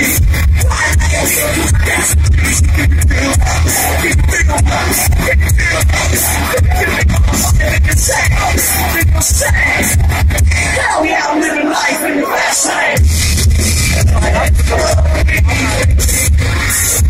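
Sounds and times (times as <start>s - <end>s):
heavy bass: 0.0s - 17.0s
pounding drum beat: 0.0s - 17.0s
vocals over band: 0.0s - 17.0s.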